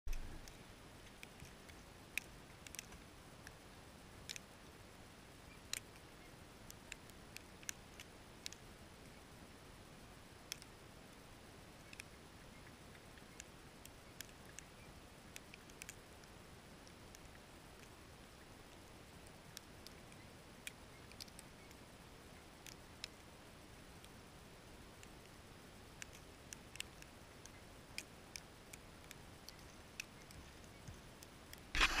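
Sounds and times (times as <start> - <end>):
faint steady hiss: 0.1 - 32.0.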